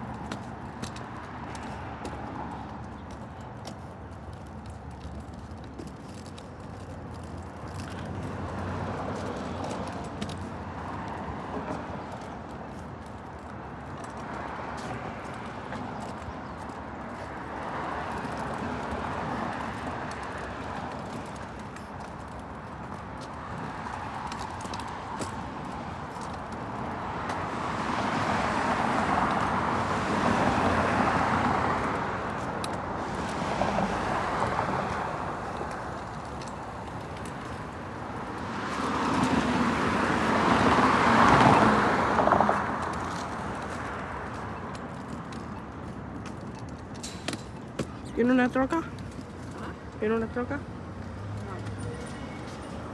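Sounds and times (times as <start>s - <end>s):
vehicles passing by: 0.0s - 52.9s.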